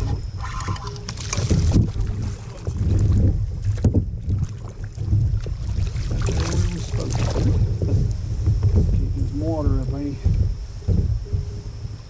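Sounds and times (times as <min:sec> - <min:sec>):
water splashing: 0:00.0 - 0:10.5
wind buffeting microphone: 0:00.0 - 0:12.0.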